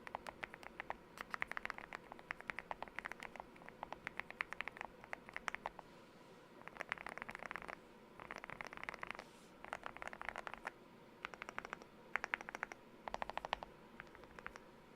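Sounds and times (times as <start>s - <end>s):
typing on mechanical keyboard: 0.0s - 5.8s, 6.6s - 14.6s.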